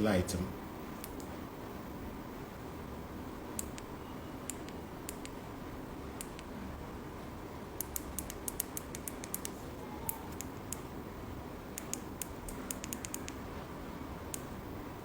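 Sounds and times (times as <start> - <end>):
low steady room hum: 0.0 - 15.0.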